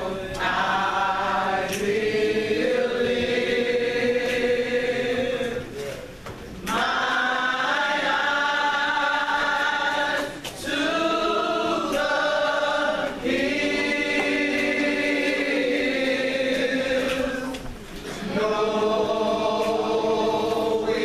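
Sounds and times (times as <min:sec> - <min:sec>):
vocal group singing in harmony: 0:00.0 - 0:05.8, 0:06.7 - 0:21.0.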